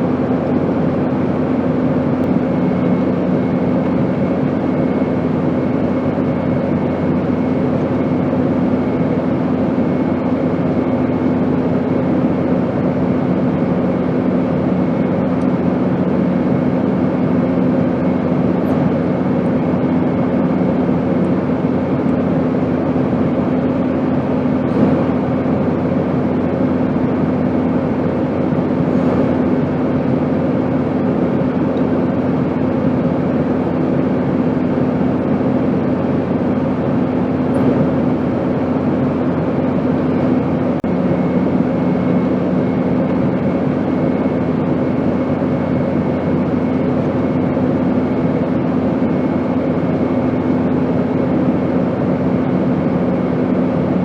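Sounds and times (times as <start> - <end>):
airplane drone: 0.0 - 54.0.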